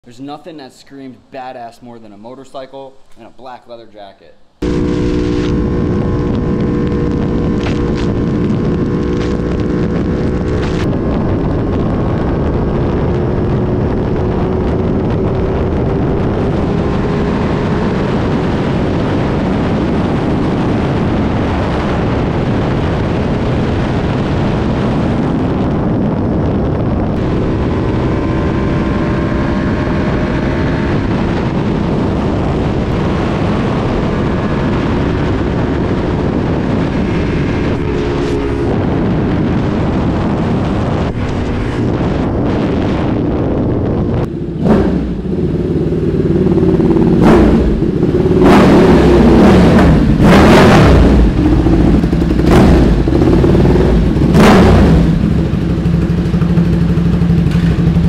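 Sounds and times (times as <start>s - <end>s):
motorcycle engine running: 4.6s - 58.0s
wind rush on microphone: 4.6s - 58.0s.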